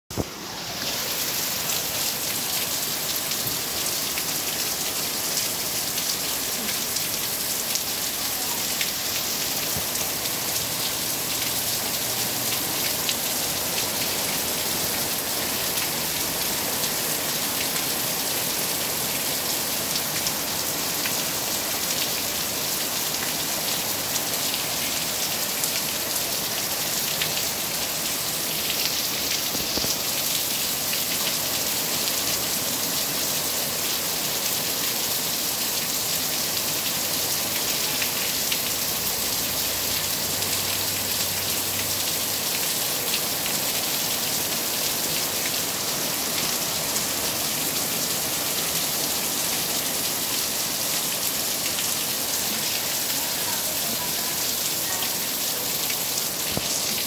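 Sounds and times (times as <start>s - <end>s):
heavy rain: 0.1s - 57.0s
raindrops pattering on surfaces: 0.1s - 57.0s.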